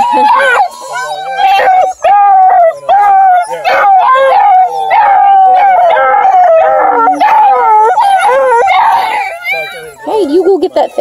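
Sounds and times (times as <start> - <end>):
puppies howling: 0.0 - 11.0.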